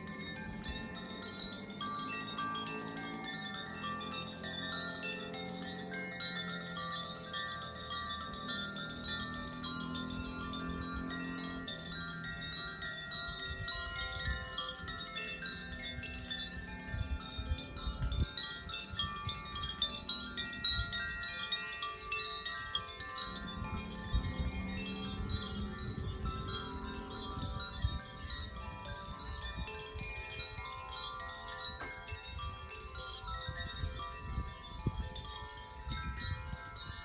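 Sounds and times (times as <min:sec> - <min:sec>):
wind chimes ringing: 0:00.0 - 0:37.0.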